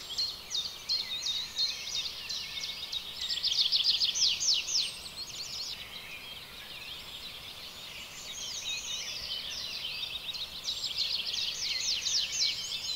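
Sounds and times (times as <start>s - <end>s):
birds singing: 0.0s - 12.9s.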